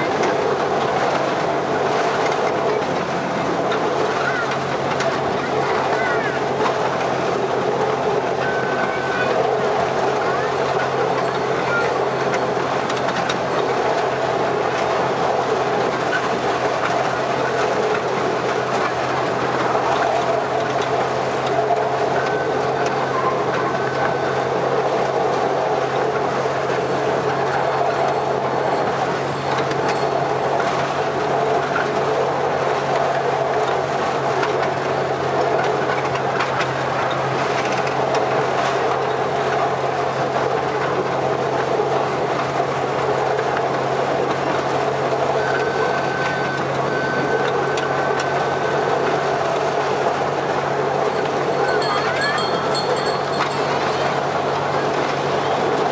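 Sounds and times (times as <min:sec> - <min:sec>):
miniature train rumbling on track: 0:00.0 - 0:55.9.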